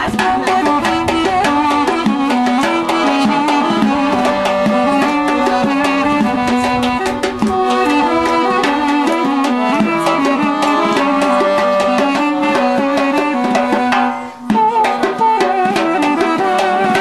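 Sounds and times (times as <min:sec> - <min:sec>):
music with hand-drum beat: 0:00.0 - 0:17.0.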